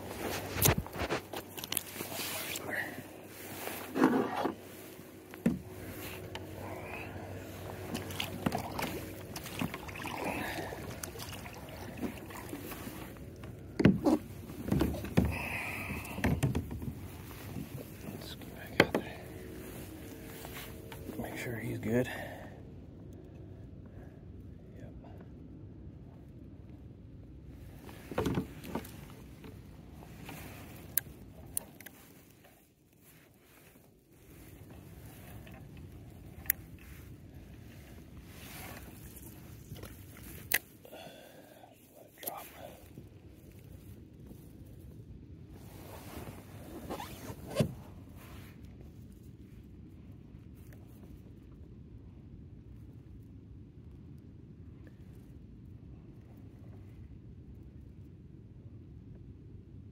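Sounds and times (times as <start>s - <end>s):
low steady rumble: 0.0s - 59.9s.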